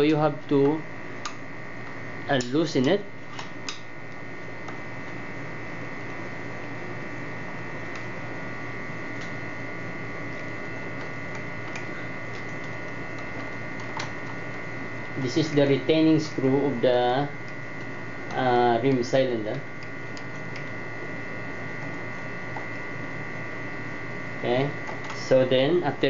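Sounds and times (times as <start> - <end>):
electrical hum with high whine: 0.0 - 26.0.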